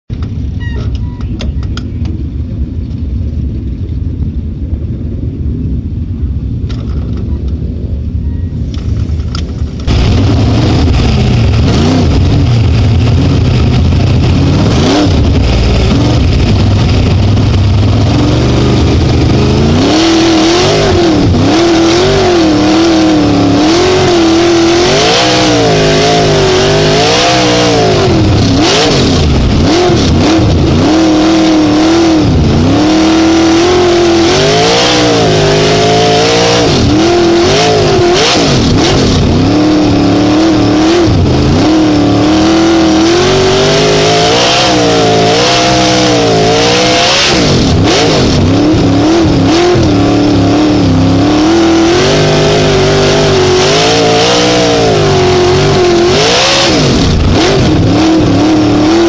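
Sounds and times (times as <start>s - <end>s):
racing car engine revving: 9.3s - 59.0s.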